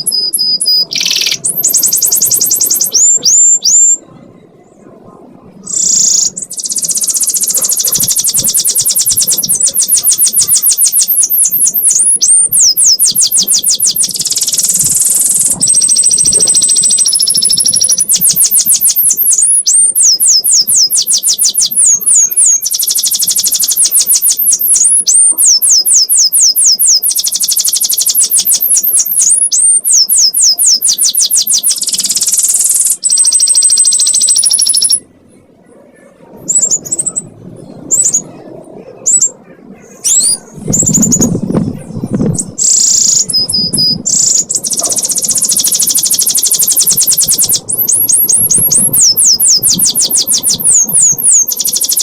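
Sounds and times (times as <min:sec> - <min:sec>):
canary singing trills: 0:00.0 - 0:04.9, 0:05.6 - 0:52.0.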